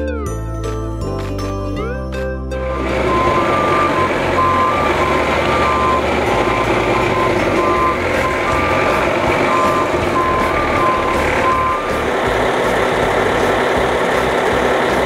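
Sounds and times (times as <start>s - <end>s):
truck engine running: 2.5s - 15.0s
truck backup alarm beeping: 2.6s - 15.0s.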